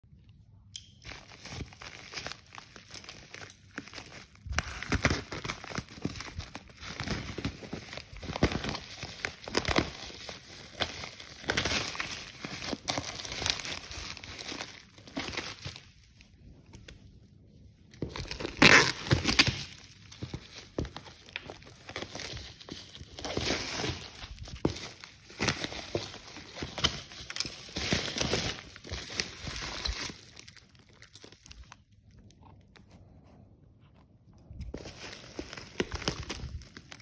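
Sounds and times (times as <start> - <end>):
packaging crinkling and rustling: 1.0 - 17.1, 17.9 - 33.1, 33.9 - 37.0.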